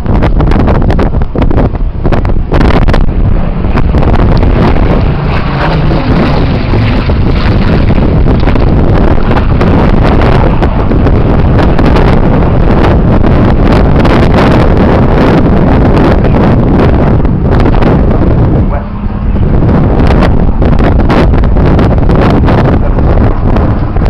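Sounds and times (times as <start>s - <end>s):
aircraft engine in flight: 0.0s - 24.0s
wind buffeting microphone: 0.0s - 24.0s.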